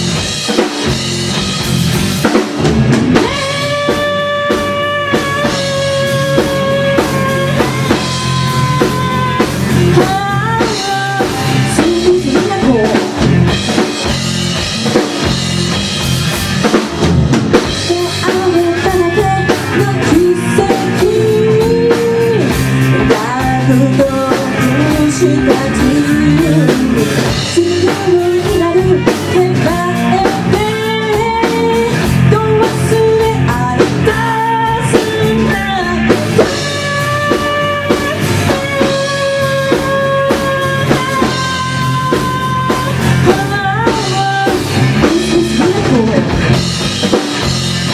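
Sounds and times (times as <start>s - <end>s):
drum kit beat: 0.0s - 47.9s
electric guitar: 0.0s - 47.9s
person singing: 3.2s - 13.4s, 17.8s - 46.5s.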